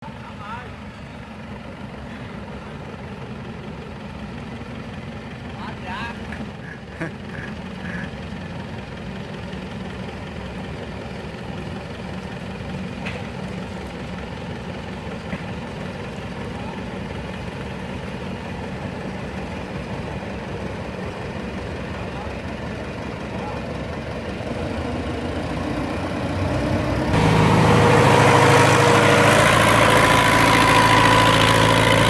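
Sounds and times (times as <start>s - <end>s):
engine droning steadily: 0.0s - 32.0s.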